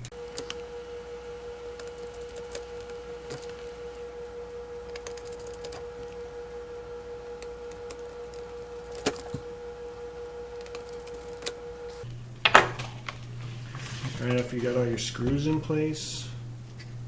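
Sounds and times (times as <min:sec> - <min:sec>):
steady humming tone: 0:00.0 - 0:17.0.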